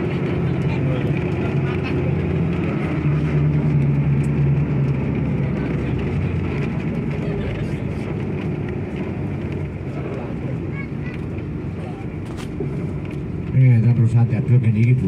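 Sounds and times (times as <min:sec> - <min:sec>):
bus engine humming: 0:00.0 - 0:15.0.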